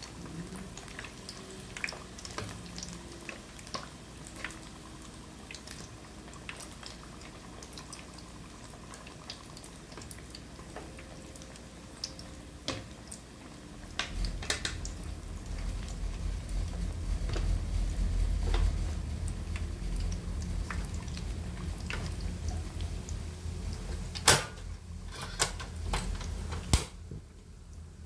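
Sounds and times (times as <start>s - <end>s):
deep-frying sizzle with pops: 0.0s - 28.0s.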